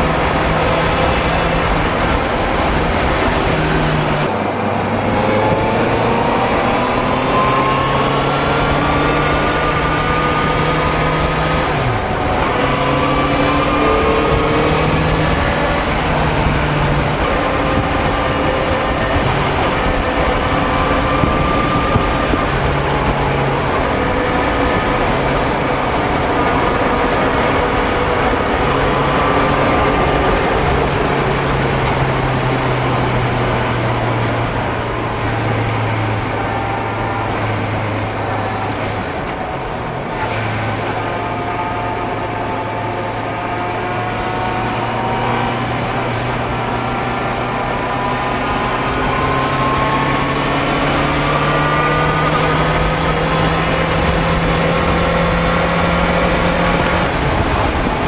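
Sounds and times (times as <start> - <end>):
motorcycle engine running: 0.0 - 58.0
wind and road rush: 0.0 - 58.0.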